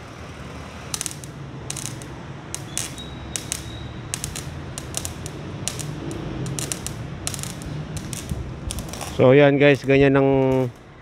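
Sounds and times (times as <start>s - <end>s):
welding arc crackling: 0.8s - 11.0s.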